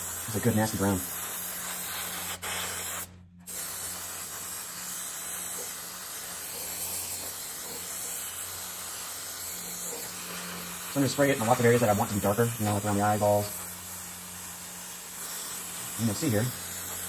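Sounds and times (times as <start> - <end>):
airbrush hissing: 0.0 - 17.0.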